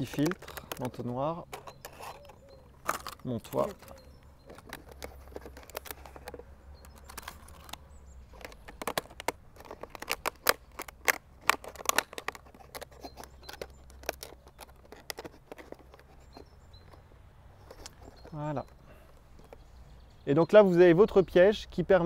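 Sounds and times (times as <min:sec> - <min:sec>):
plastic bottle crackling and clicking: 0:00.0 - 0:19.7.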